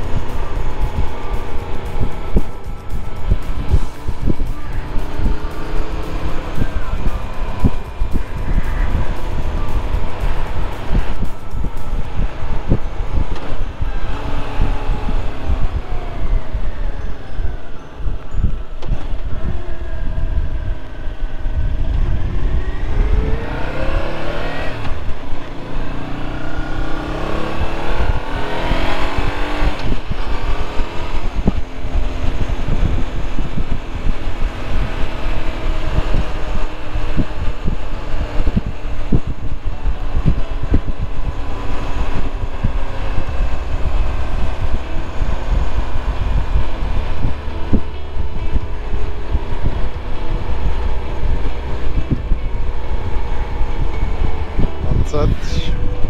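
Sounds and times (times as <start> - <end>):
motorcycle engine accelerating: 0.0 - 56.0
wind rumble on microphone: 0.0 - 56.0.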